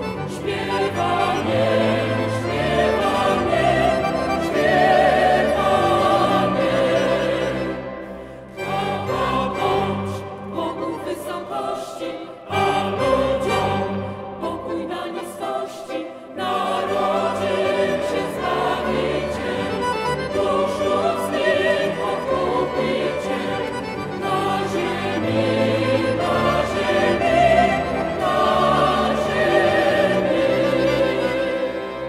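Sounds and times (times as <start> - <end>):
mixed choir singing: 0.0 - 32.0
string quintet: 0.0 - 32.0.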